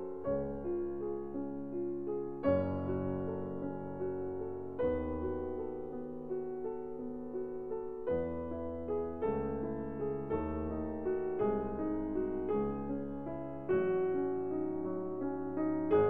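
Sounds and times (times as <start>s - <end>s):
slow classical piano music: 0.0s - 16.0s.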